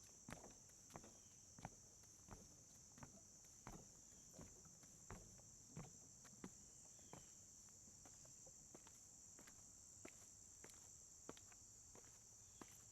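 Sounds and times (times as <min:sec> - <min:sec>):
footsteps on wooden deck: 0:00.0 - 0:12.9
insects chirring: 0:00.0 - 0:12.9.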